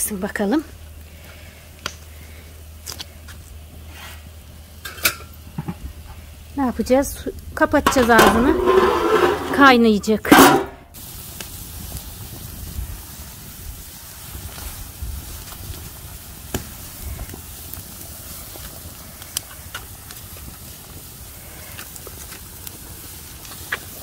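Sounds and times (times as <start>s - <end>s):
water boiling in a pot: 0.0s - 24.0s
wood fire crackling: 0.0s - 24.0s.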